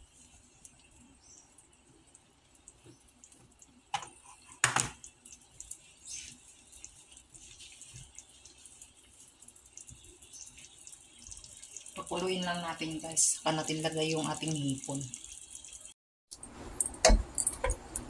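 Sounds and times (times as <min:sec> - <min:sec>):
pot simmering with bubbling: 0:00.0 - 0:18.0.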